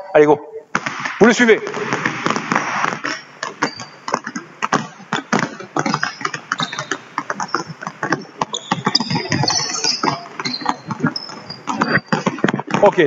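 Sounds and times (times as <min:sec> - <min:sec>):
basketballs bouncing on hardwood floor: 0:00.8 - 0:13.0.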